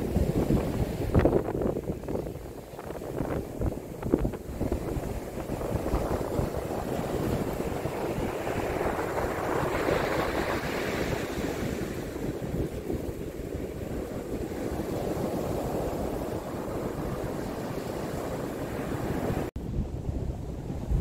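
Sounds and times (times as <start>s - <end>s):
surf breaking on beach: 0.0s - 19.5s
wind on microphone: 0.0s - 21.0s.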